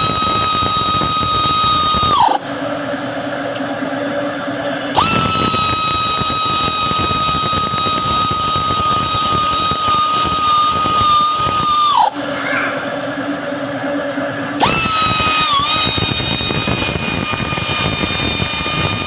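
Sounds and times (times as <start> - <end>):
power tool motor whining: 0.0 - 19.0.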